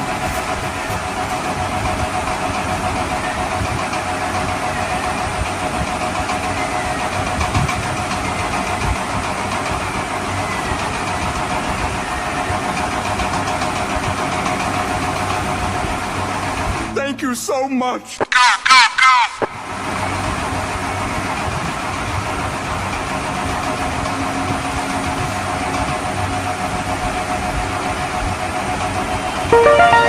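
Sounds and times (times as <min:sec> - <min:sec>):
engine running with constant hum: 0:00.0 - 0:17.0, 0:19.4 - 0:29.5.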